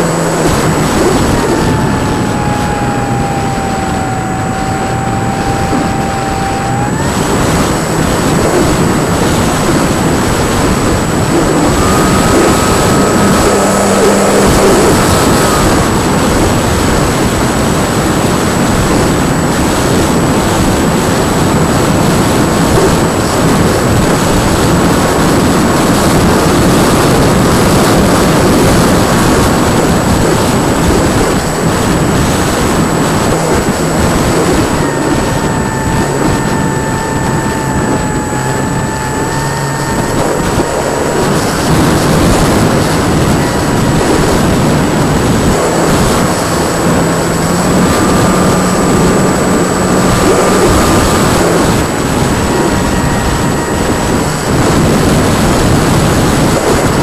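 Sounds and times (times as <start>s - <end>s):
model plane motor whine: 0.0s - 57.0s
wind rushing over microphone: 0.0s - 57.0s.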